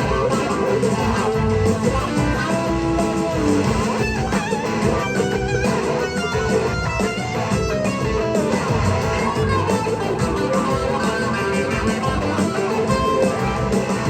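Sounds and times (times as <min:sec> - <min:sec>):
electric guitar lead: 0:00.0 - 0:14.0
rock band playing: 0:00.0 - 0:14.0.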